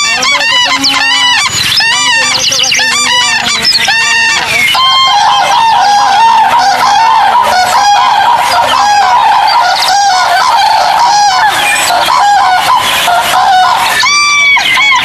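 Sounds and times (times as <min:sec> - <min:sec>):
wavering high animal call: 0:00.0 - 0:15.0.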